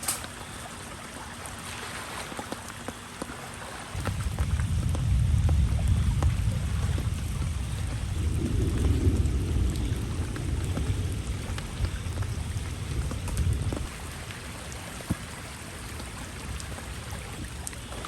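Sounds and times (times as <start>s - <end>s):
low rumble of rain: 0.0s - 18.0s.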